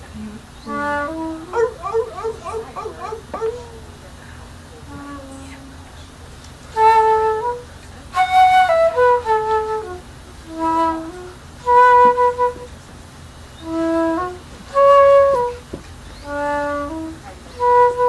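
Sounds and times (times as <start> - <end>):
flute playing slow melody: 0.2 - 12.9, 13.5 - 18.0.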